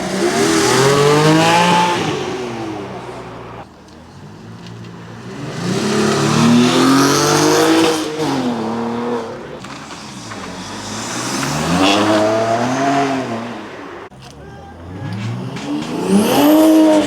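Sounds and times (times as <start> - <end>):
car engine revving hard: 0.0 - 14.1, 14.8 - 17.0.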